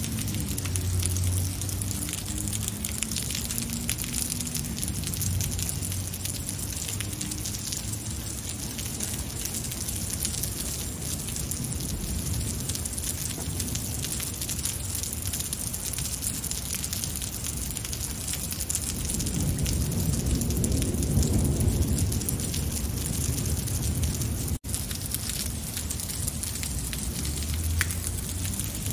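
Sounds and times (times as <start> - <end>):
heavy rain on pavement: 0.0 - 28.9
thunder rumble: 0.0 - 28.9.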